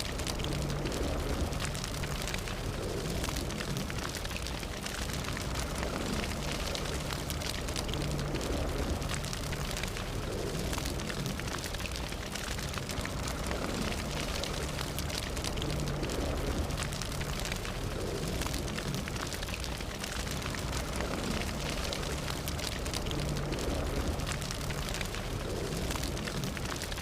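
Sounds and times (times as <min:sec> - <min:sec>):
fire crackling and popping: 0:00.0 - 0:27.0
fire low rumble: 0:00.0 - 0:27.0.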